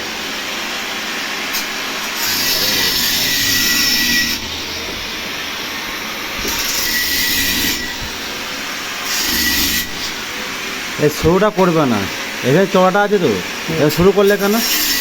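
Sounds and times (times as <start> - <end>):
steady machine hum: 0.0 - 14.7
high hissing metal noise: 0.0 - 15.0.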